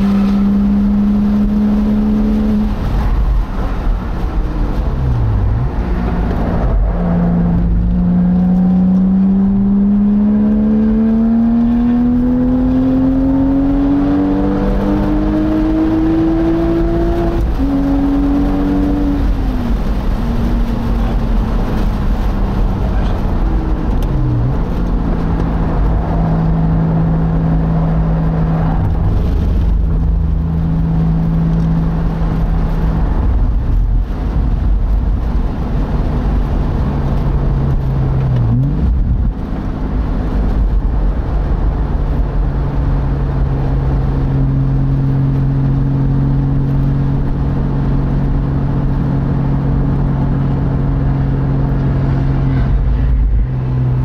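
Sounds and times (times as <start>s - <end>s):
car engine pulling at speed: 0.0s - 54.0s
wind and road noise: 0.0s - 54.0s.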